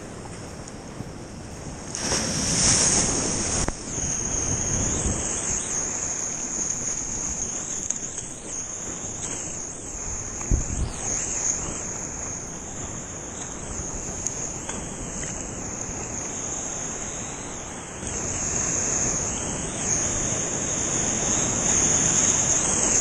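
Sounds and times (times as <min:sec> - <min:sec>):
surf breaking: 0:00.0 - 0:22.5
high-pitched whine: 0:00.0 - 0:23.0.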